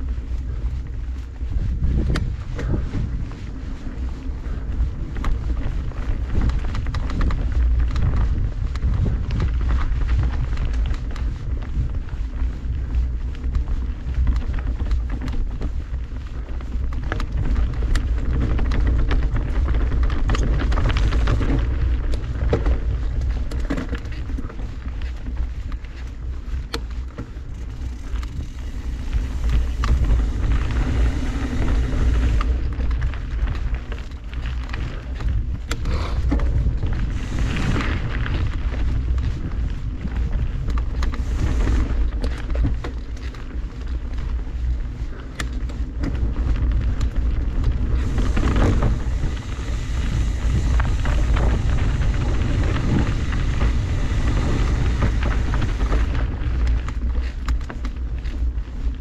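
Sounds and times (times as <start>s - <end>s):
bike rattling and knocking: 0.0s - 59.0s
tyres crunching over gravel: 0.0s - 59.0s
wind rumbling on microphone: 0.0s - 59.0s.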